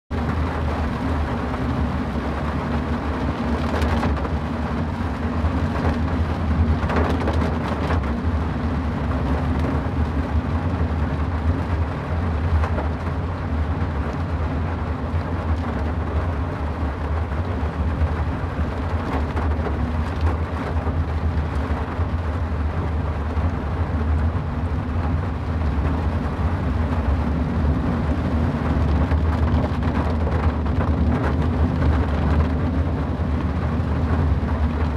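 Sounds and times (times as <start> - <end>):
car road and engine rumble: 0.1 - 34.9
rain and wet tyres hissing: 0.1 - 34.9.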